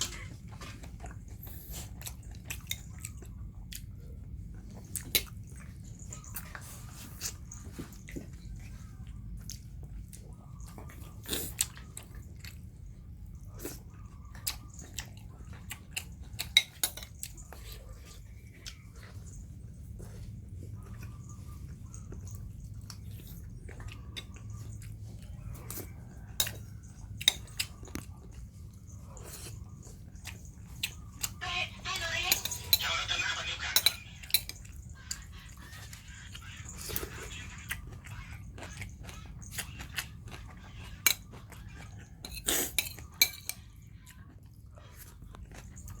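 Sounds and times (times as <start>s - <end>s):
puppies chewing: 0.0s - 46.0s.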